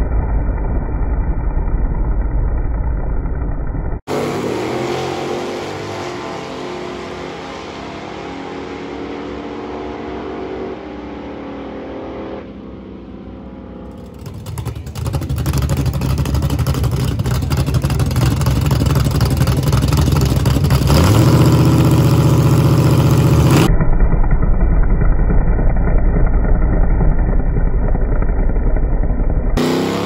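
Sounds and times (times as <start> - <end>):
loud loping car engine: 0.0 - 30.0
distant engine: 4.1 - 30.0.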